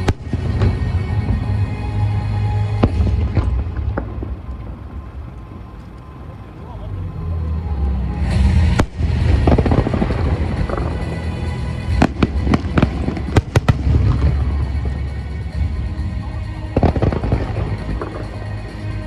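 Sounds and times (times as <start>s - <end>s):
fireworks sharp cracks: 0.0s - 6.1s, 8.2s - 19.0s
fireworks booming: 0.0s - 6.4s, 7.3s - 19.0s
music playing: 0.0s - 19.0s.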